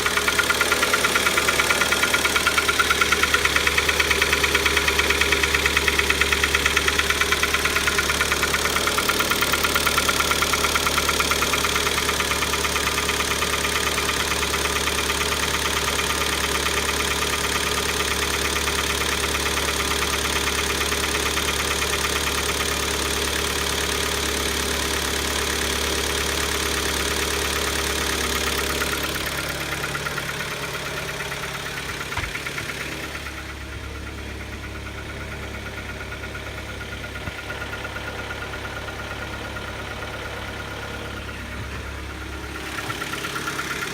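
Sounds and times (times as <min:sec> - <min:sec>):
car engine idling with knock: 0:00.0 - 0:43.9.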